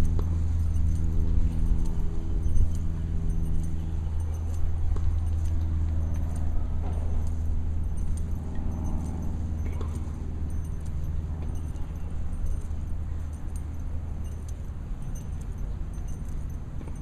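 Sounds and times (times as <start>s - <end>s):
bracelets jingling: 0.0s - 17.0s
low outdoor rumble: 0.0s - 17.0s.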